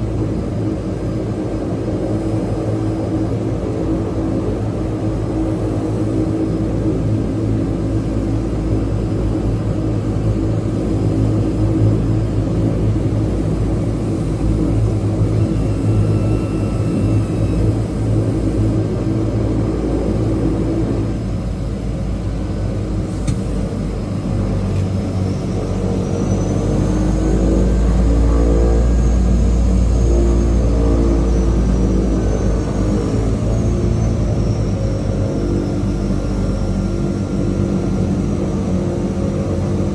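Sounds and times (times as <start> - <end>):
rising engine whine: 0.0 - 39.9
turboprop engines running: 0.0 - 39.9.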